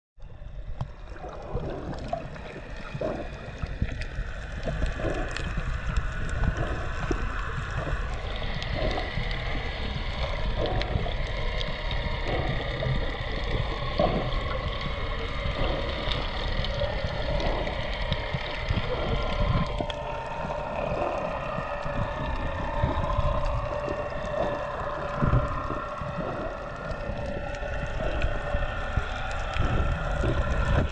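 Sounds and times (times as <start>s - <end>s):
underwater rumble of moving water: 0.2s - 30.9s.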